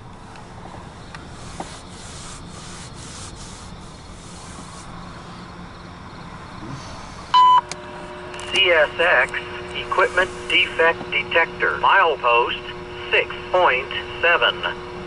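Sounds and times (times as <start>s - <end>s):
road and tyre noise in car: 0.0s - 15.0s.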